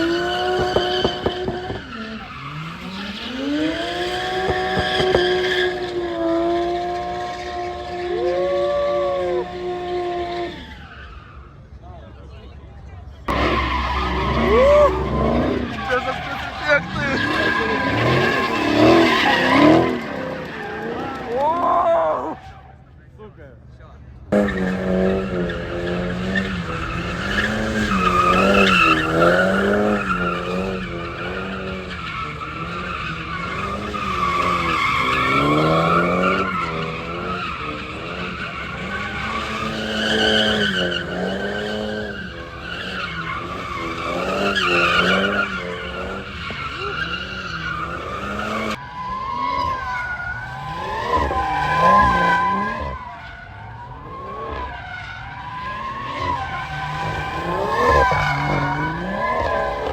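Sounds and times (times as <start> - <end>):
tyres squealing and skidding: 0.0 - 23.4, 24.3 - 59.9
car engines revving: 0.0 - 59.9.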